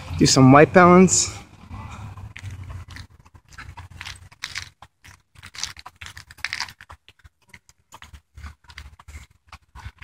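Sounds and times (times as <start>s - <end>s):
crunching and scraping: 1.8s - 10.0s.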